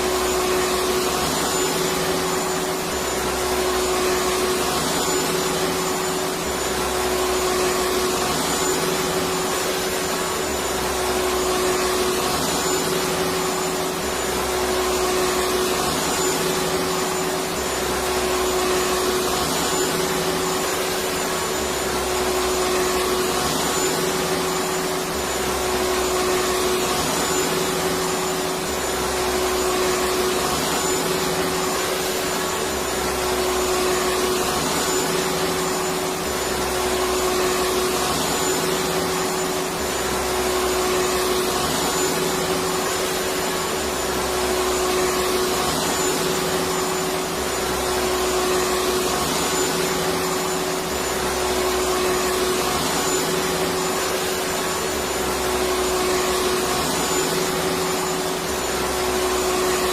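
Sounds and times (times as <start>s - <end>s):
vacuum cleaner whining: 0.0s - 59.9s.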